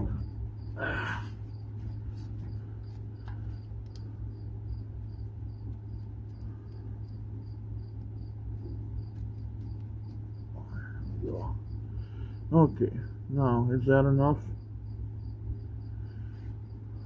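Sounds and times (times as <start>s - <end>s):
insect chirping: 0.0s - 17.0s
steady low hum: 0.0s - 17.0s.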